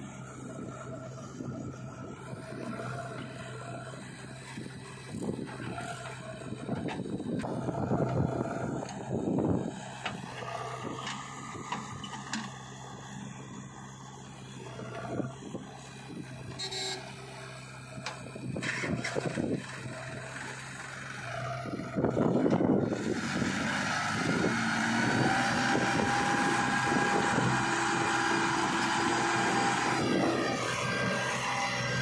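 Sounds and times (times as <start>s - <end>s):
diesel engines idling and revving: 0.0s - 32.0s
engine whine: 0.0s - 32.0s.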